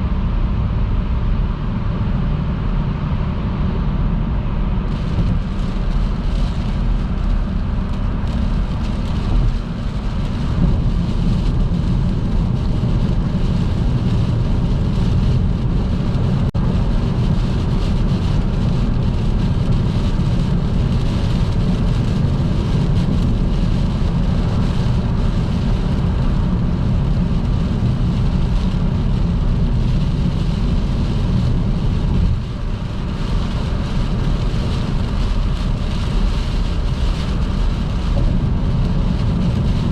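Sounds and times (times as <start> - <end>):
car road rumble: 0.0 - 39.9
heavy rain: 4.5 - 39.9
tyre spray on wet road: 4.9 - 39.9.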